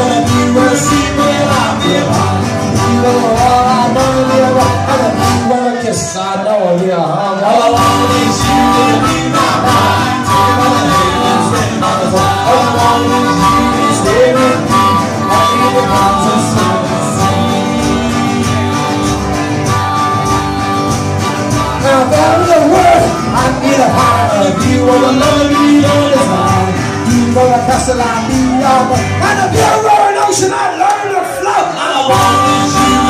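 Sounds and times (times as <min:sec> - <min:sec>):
live band playing instrumental: 0:00.0 - 0:06.2, 0:07.6 - 0:30.0, 0:32.1 - 0:33.0.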